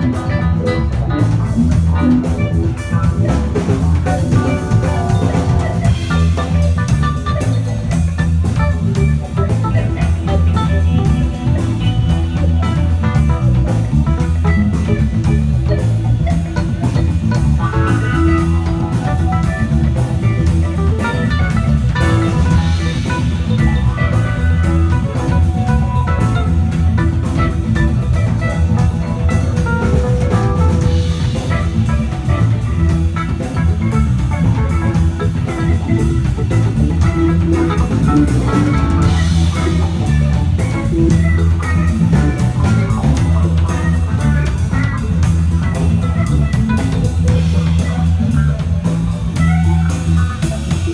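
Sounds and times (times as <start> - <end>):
band playing instrumental: 0.0 - 50.9
guitar: 0.0 - 50.9.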